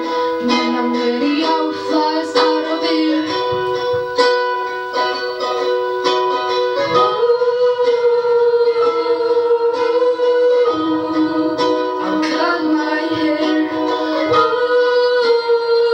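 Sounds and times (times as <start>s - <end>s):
person singing: 0.0s - 15.9s
ukulele strumming: 0.0s - 15.9s.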